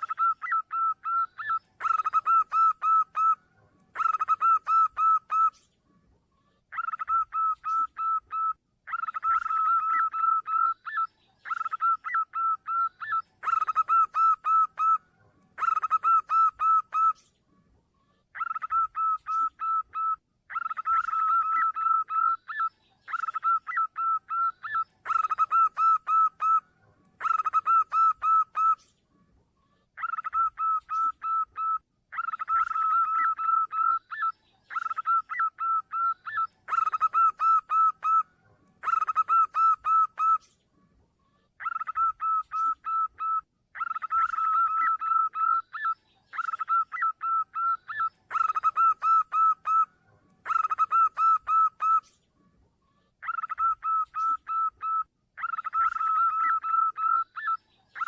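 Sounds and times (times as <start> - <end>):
dove cooing: 0.0 - 5.7, 6.7 - 17.3, 18.3 - 28.9, 30.0 - 40.5, 41.6 - 52.2, 53.2 - 58.0.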